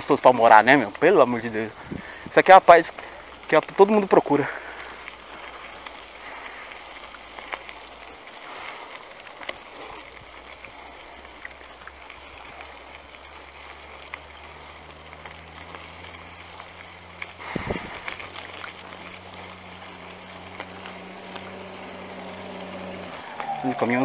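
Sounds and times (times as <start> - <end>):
bike rattling and clicking: 0.0 - 24.0
bike tyres crunching on dirt road: 0.0 - 24.0.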